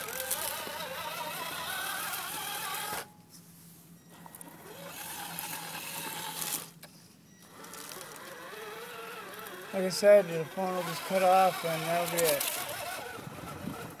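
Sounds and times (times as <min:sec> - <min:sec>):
rc truck motor whining: 0:00.0 - 0:03.2, 0:04.0 - 0:14.0.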